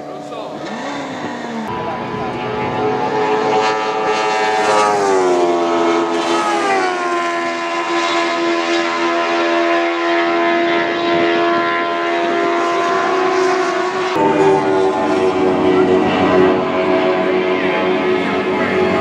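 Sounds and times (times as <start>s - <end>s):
race cars passing at full throttle: 0.0s - 19.0s.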